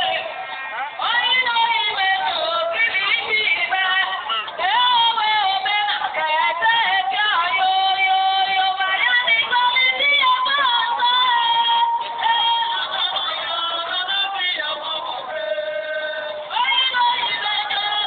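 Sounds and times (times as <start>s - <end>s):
group singing with music: 0.0s - 18.0s.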